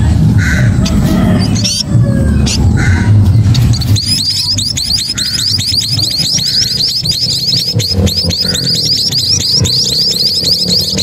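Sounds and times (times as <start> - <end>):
low rumble: 0.0 - 10.4
nestling birds cheeping: 0.4 - 11.0.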